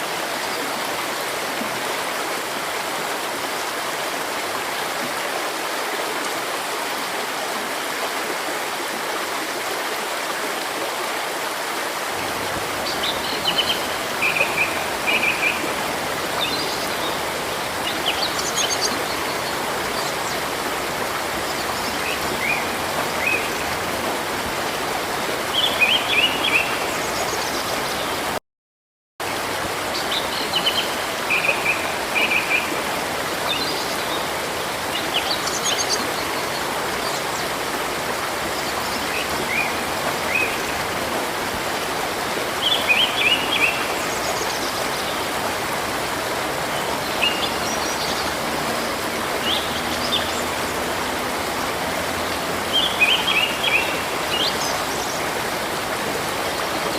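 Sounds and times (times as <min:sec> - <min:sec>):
river rushing: 0:00.0 - 0:28.4, 0:29.2 - 0:56.9.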